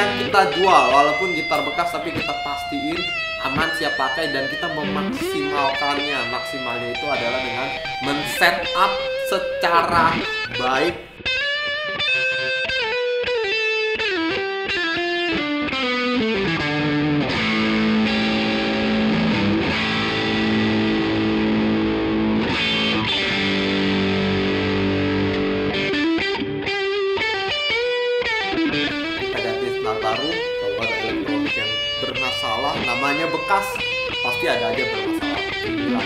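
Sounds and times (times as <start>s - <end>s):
electric guitar playing: 0.0s - 36.0s.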